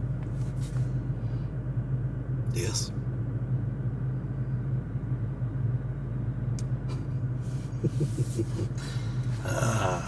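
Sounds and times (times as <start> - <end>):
vehicle driving rumble: 0.0 - 10.0.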